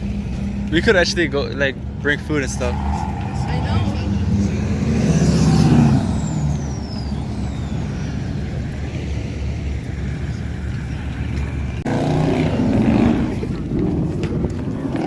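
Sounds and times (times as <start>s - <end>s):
car engine revving: 0.0s - 10.5s, 11.1s - 15.0s
low engine rumble: 0.0s - 15.0s.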